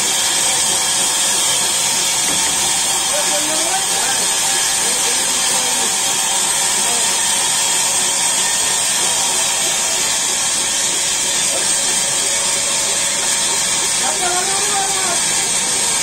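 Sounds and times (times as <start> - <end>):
high whine: 0.0 - 16.0
sawmill machinery hissing: 0.0 - 16.0.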